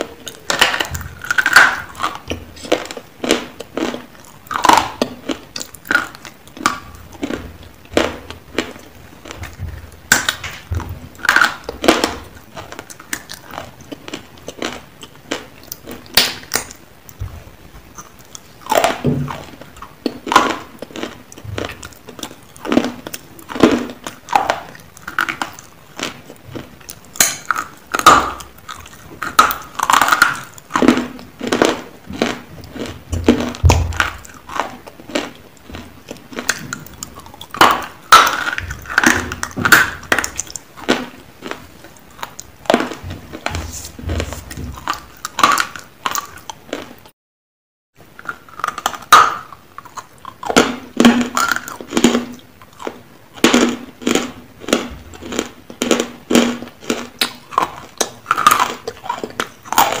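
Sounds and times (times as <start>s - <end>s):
crunching and chewing: 0.0s - 47.1s, 48.1s - 60.0s.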